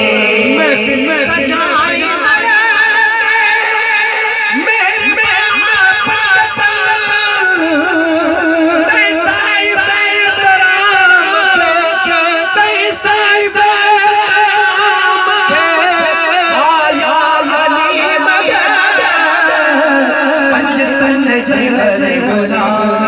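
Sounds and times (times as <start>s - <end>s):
men singing over a pa: 0.0s - 23.0s.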